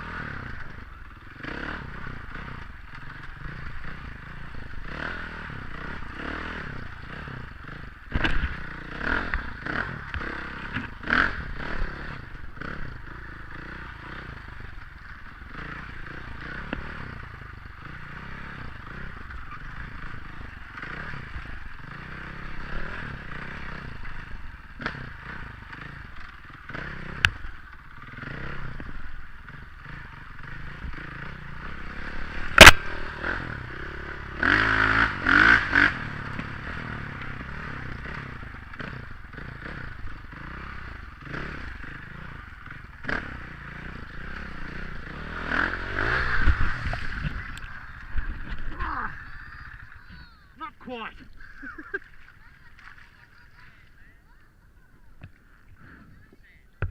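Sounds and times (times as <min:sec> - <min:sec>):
dirt bike engine: 0:00.0 - 0:56.9.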